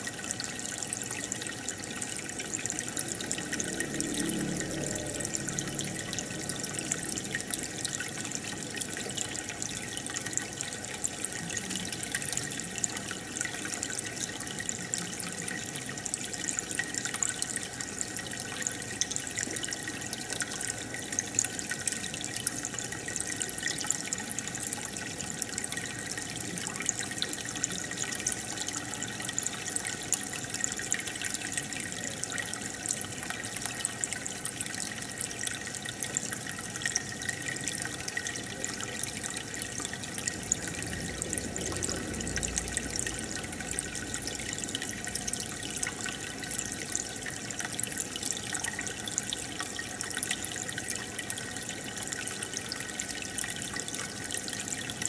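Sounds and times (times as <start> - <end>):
aquarium water bubbling: 0.0 - 55.0.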